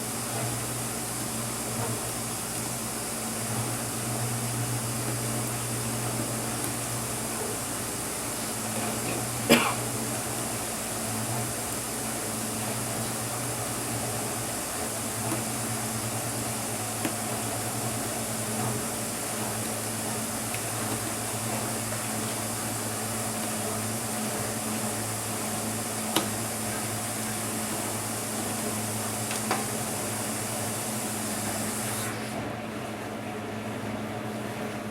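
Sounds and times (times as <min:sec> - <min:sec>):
steady hum and hiss: 0:00.0 - 0:33.2.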